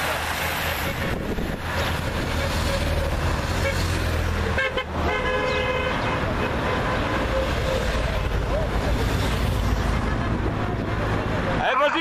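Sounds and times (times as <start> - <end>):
cars and motorcycles driving past: 0.0 - 12.0.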